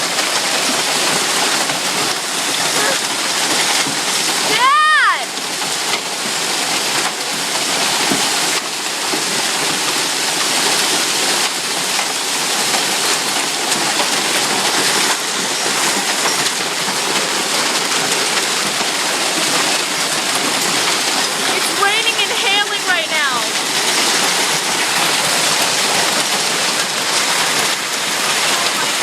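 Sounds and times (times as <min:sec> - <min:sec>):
large hailstones falling: 0:00.0 - 0:29.0.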